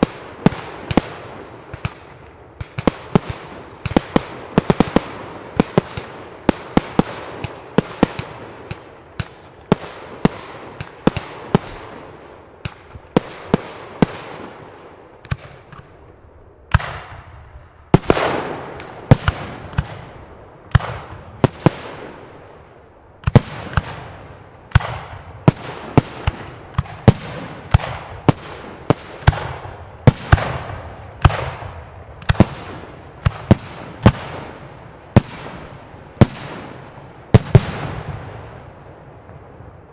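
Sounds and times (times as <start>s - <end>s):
fireworks bursting with bangs: 0.0s - 16.1s, 16.7s - 39.9s.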